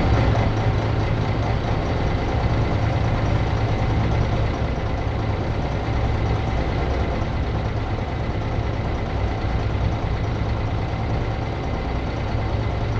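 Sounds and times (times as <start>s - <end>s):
bus engine running: 0.0s - 12.9s.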